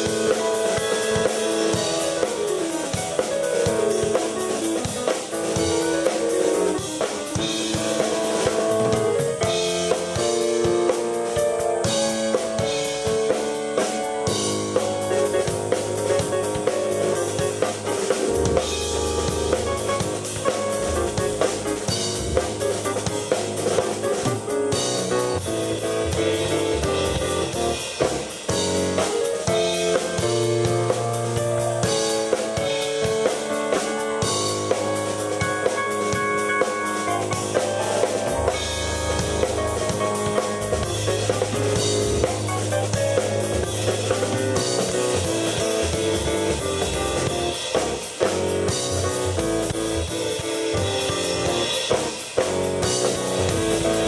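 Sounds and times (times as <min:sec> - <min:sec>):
drum kit playing: 0:00.0 - 0:54.0
keyboard playing chords: 0:00.0 - 0:54.0.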